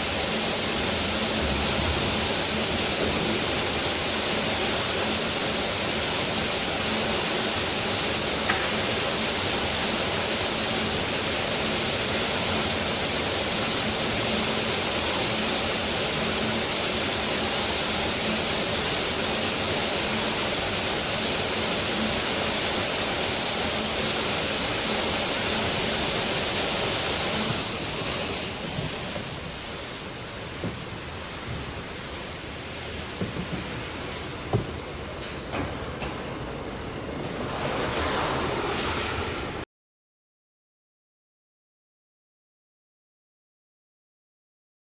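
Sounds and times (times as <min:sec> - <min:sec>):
tape machine hissing: 0:00.0 - 0:39.6.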